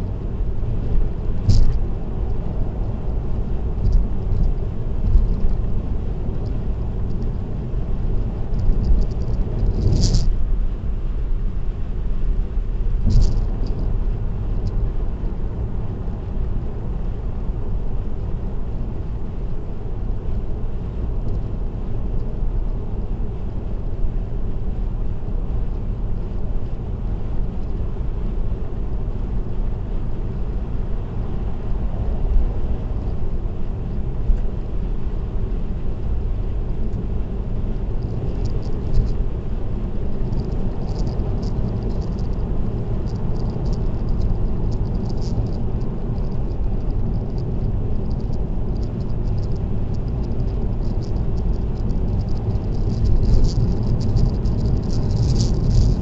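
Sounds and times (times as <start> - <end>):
car road and tyre rumble: 0.0 - 56.0.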